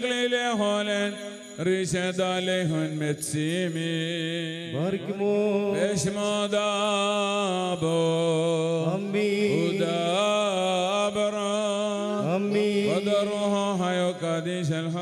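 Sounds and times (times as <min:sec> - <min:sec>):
man chanting a prayer over loudspeakers: 0:00.0 - 0:15.0.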